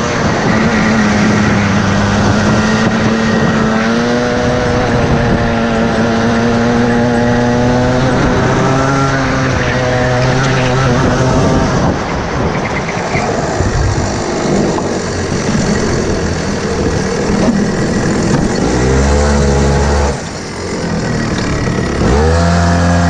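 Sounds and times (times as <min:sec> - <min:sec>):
kart engine: 0:00.0 - 0:23.0
tyre noise: 0:00.0 - 0:23.0
wind: 0:00.0 - 0:23.0.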